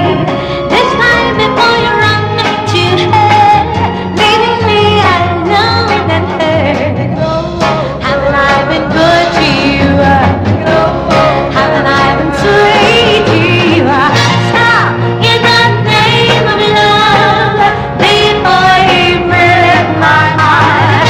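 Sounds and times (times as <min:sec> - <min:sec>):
band with bass and drums: 0:00.0 - 0:21.0
female vocal group singing: 0:00.0 - 0:21.0.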